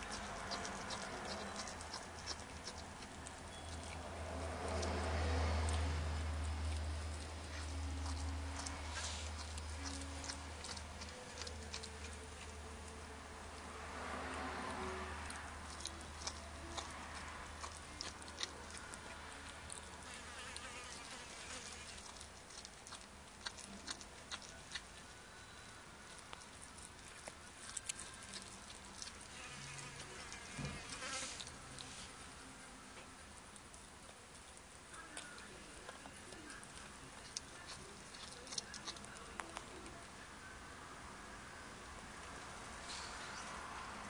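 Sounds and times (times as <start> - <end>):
cat chewing: 0.0 - 40.2
low steady hum: 0.0 - 44.0.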